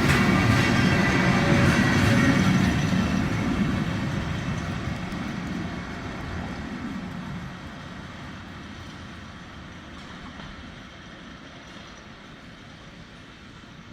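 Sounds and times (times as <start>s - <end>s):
train pulling away rumbling: 0.0s - 13.9s.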